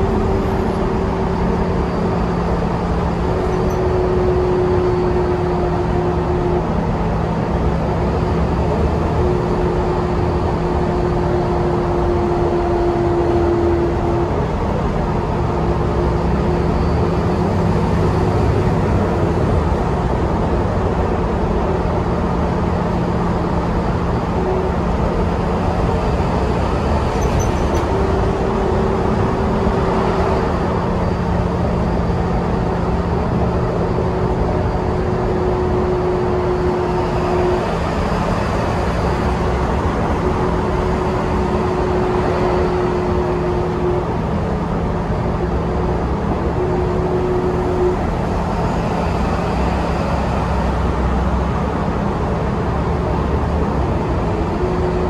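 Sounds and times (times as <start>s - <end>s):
bus drivetrain drone: 0.0s - 55.0s
road and tyre noise: 0.0s - 55.0s.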